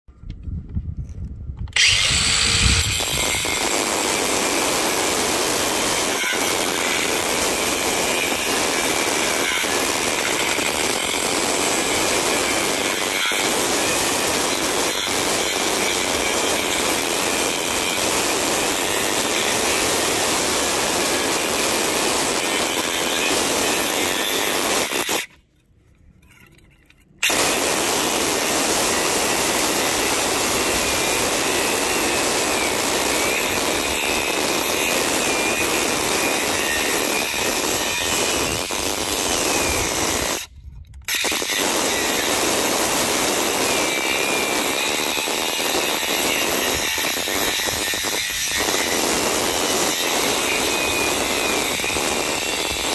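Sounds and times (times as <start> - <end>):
angle grinder cutting concrete: 1.8 - 25.3, 27.2 - 40.5, 41.1 - 52.9.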